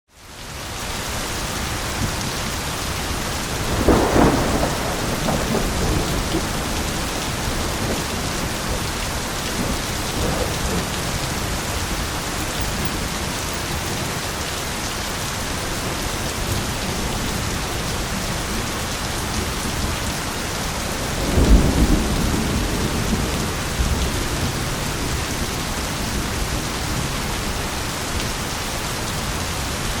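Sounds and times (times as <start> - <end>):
heavy rain: 0.1 - 30.0
thunder rumbling: 3.0 - 27.6.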